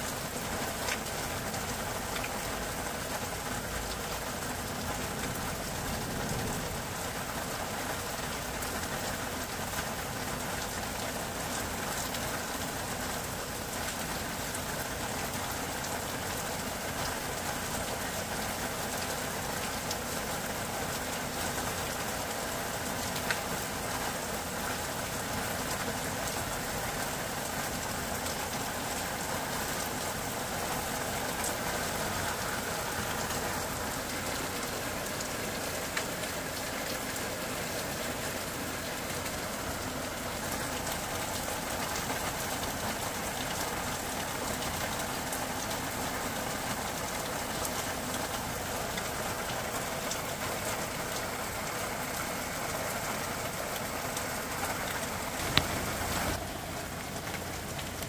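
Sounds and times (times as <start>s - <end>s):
curry sizzling and bubbling: 0.0s - 58.0s.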